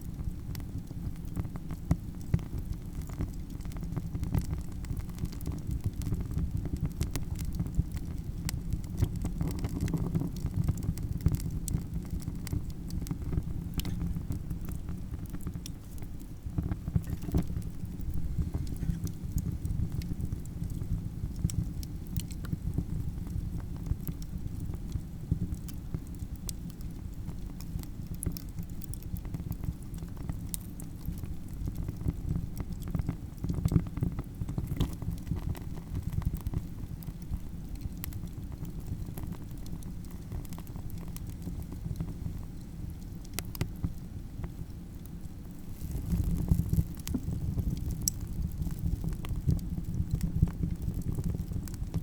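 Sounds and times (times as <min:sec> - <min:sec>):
campfire crackling and popping: 0:00.0 - 0:52.0
low rumble of burning: 0:00.0 - 0:52.0.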